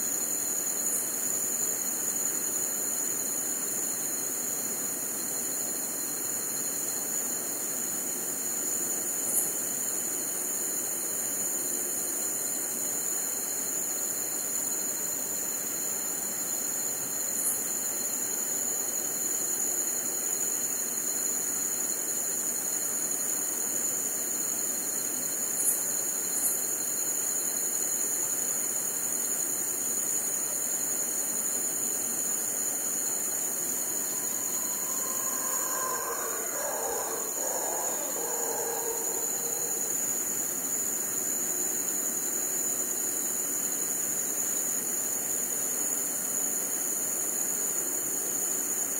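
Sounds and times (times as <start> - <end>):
crickets trilling: 0.0 - 48.9
insect hiss: 0.0 - 48.9.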